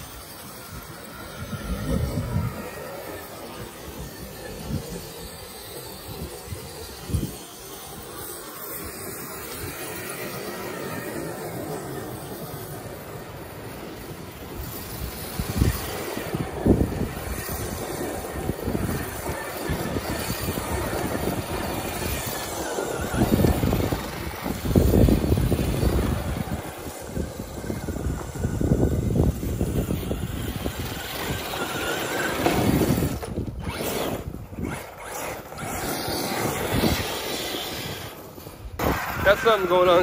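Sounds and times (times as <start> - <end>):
rc truck motor surging: 0.0 - 40.0
tyres churning dirt: 0.0 - 40.0.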